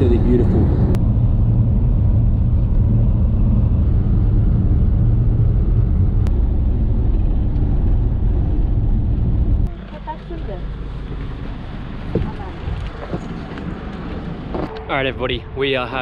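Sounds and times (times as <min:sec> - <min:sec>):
minibus engine and tyre rumble: 0:00.0 - 0:16.0.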